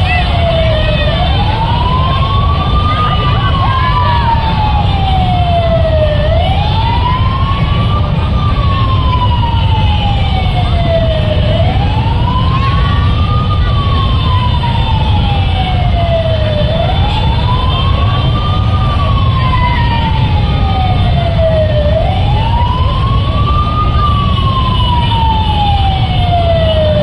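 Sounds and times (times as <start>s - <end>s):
crowd rumble: 0.0s - 27.0s
wailing siren: 0.0s - 27.0s.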